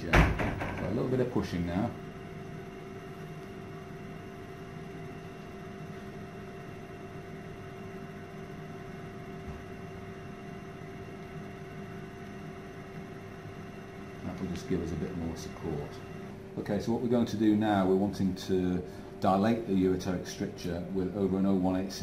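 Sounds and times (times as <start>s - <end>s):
electrical equipment hum: 0.0s - 22.0s.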